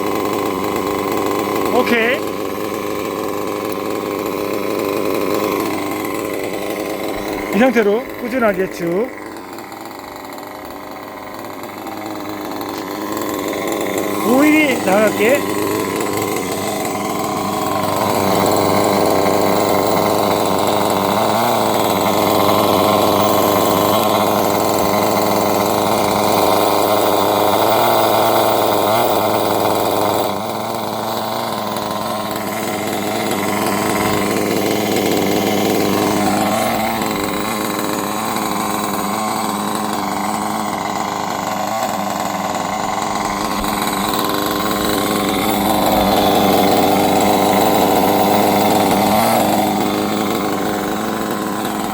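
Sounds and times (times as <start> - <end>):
small nitro engine revving: 0.0 - 51.9.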